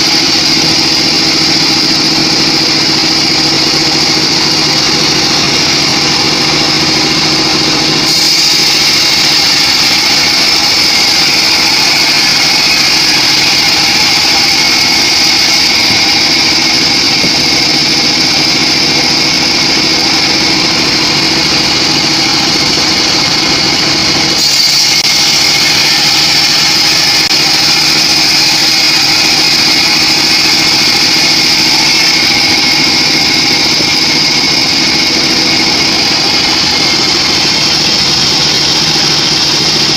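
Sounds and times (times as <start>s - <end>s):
band sawmill cutting log: 0.0s - 39.9s
saw engine drone: 0.0s - 39.9s.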